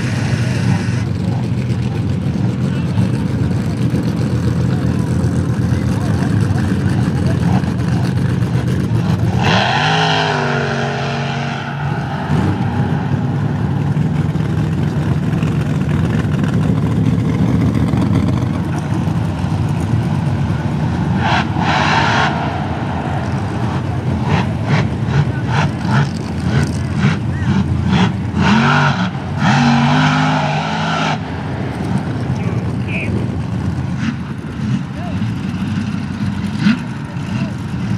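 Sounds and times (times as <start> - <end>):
supercharged engine revving hard: 5.5 - 37.9.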